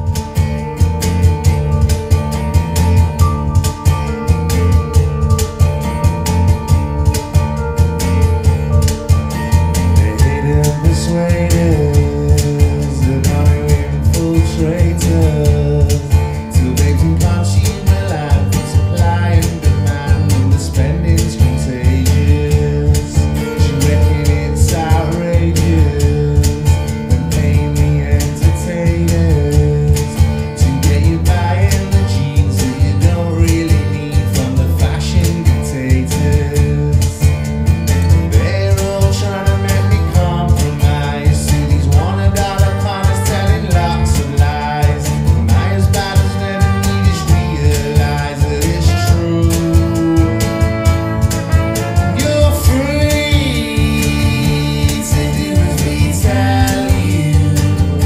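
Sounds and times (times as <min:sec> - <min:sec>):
guitar: 0:00.0 - 0:58.0
steady beat: 0:00.0 - 0:58.0
singing voice: 0:09.8 - 0:37.4, 0:38.0 - 0:58.0.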